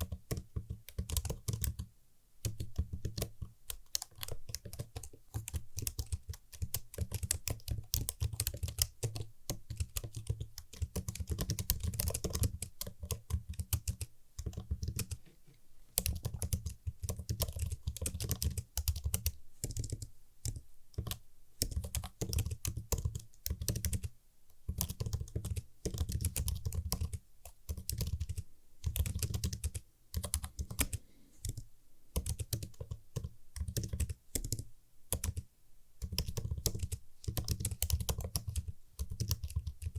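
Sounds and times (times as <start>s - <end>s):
computer keyboard typing: 0.0s - 15.2s, 16.0s - 39.9s.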